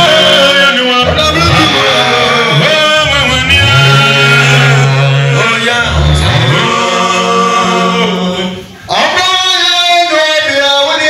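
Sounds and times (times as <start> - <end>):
men singing a chant-like hymn: 0.0 - 11.0.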